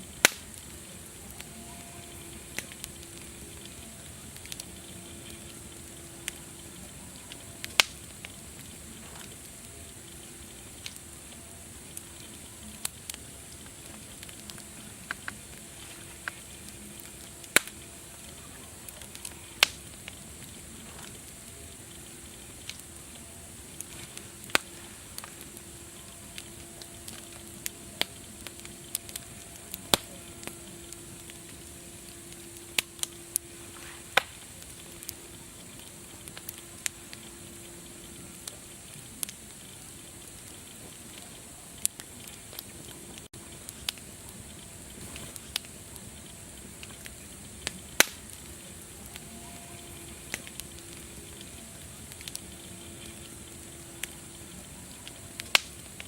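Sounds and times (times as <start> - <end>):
sharp pops of fire: 0.0 - 56.0
steady hiss of fire: 0.0 - 56.0
wood fire crackling: 0.0 - 56.0.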